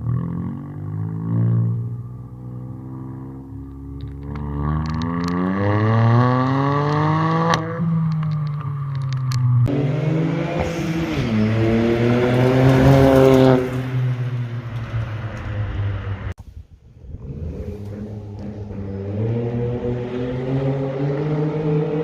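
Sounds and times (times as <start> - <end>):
car engine revving: 0.0 - 16.4, 17.0 - 22.0.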